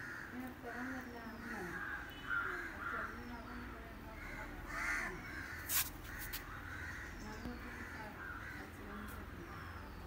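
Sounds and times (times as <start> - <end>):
crows cawing: 0.0 - 3.3, 4.1 - 9.8.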